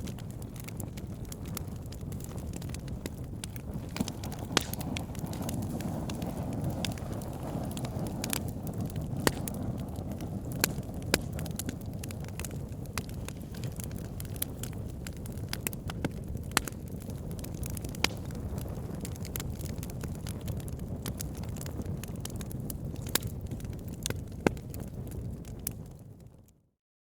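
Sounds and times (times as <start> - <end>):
wood fire crackling: 0.0 - 26.6.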